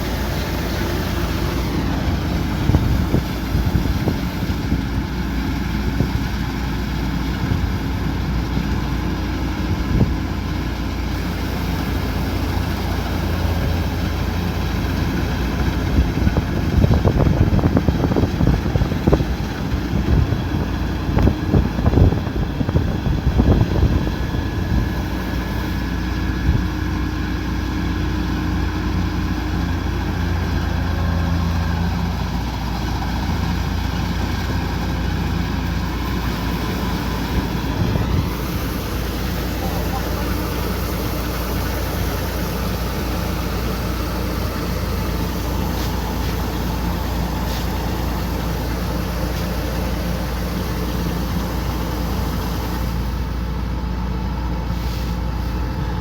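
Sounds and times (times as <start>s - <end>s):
combine harvester engine hum: 0.0s - 56.0s.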